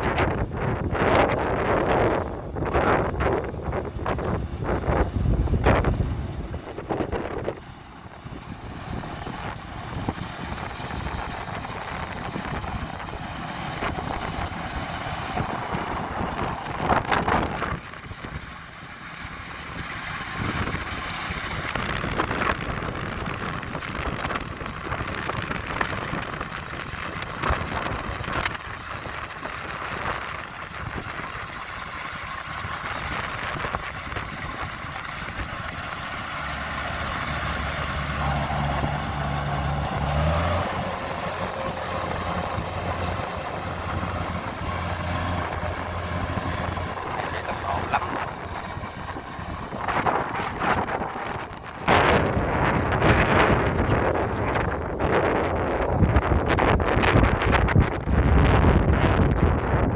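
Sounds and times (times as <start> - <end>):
combine harvester running: 0.0 - 59.9
wind noise on microphone: 0.0 - 59.9.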